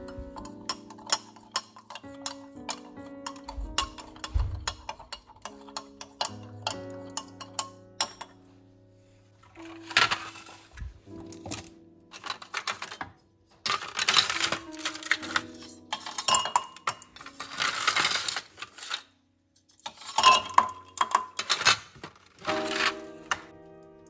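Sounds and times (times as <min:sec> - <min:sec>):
kitchenware clinking and rattling: 0:00.0 - 0:08.5, 0:09.5 - 0:23.5.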